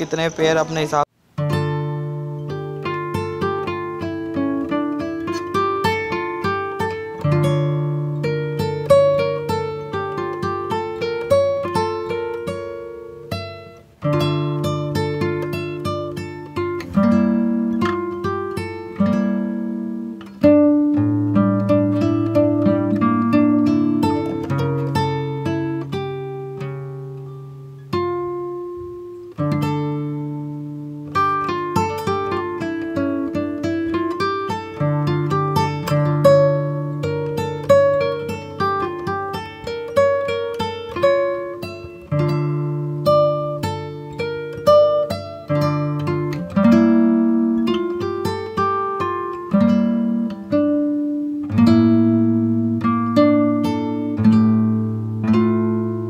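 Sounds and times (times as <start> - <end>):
plucked guitar chords: 0.0 - 56.0.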